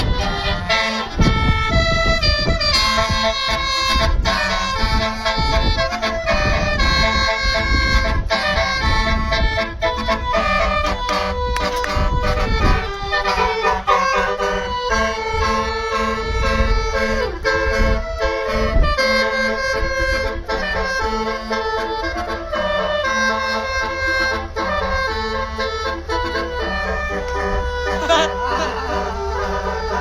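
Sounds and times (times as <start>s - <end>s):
bus rumbling: 0.0s - 30.0s
musical air horns playing tune: 0.0s - 30.0s.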